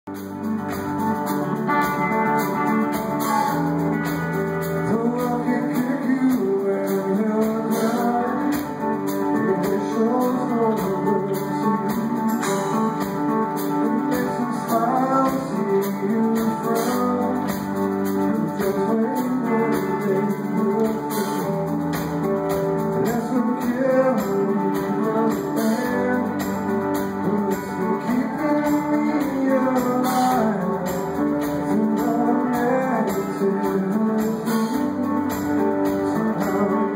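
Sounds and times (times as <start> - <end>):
drum kit: 0.0 - 36.9
electric bass: 0.1 - 36.9
electric guitar: 0.1 - 36.9.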